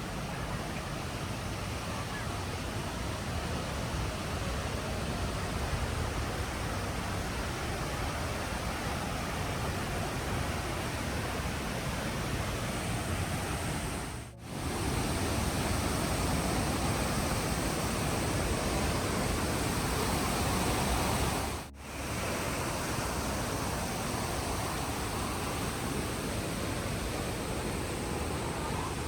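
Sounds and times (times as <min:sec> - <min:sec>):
waterfall roar: 0:00.0 - 0:29.0.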